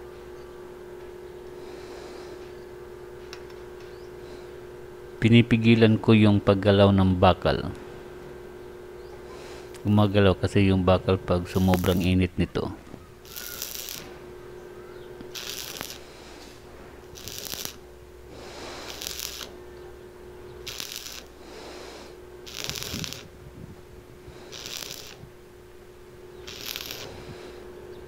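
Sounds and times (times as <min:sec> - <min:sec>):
steady hum: 0:00.0 - 0:28.0
arc welder crackling: 0:01.5 - 0:05.0, 0:07.8 - 0:10.2, 0:11.2 - 0:28.0.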